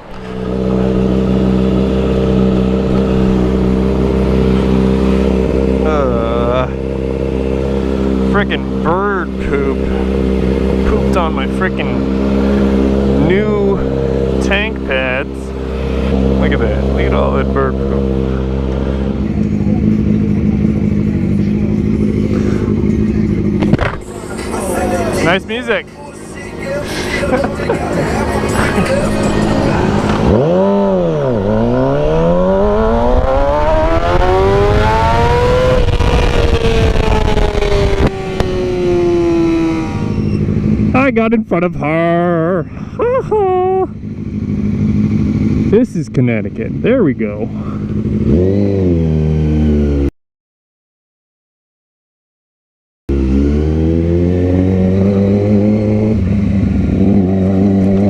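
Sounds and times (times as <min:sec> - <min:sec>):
motorcycle engine accelerating: 0:00.0 - 0:50.1, 0:53.1 - 0:58.0.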